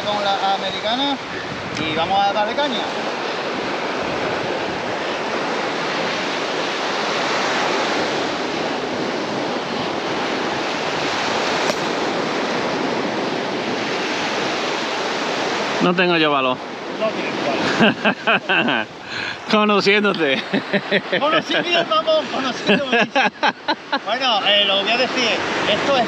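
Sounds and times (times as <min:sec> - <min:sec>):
surf washing onto beach: 0:00.0 - 0:26.0.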